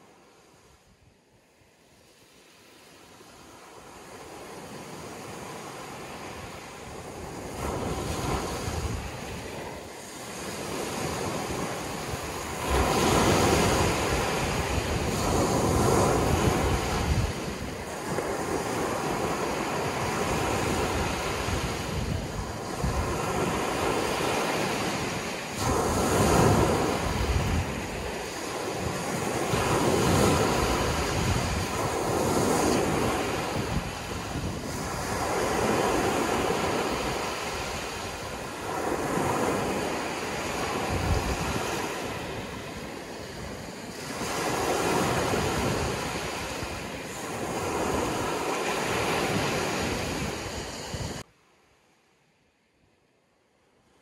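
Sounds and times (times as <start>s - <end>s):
ocean waves washing in: 0.0s - 51.3s.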